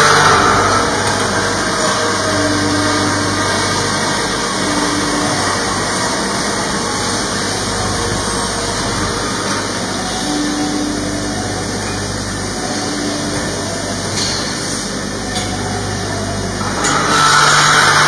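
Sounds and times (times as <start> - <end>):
pipe-bending machine humming: 0.0 - 18.0.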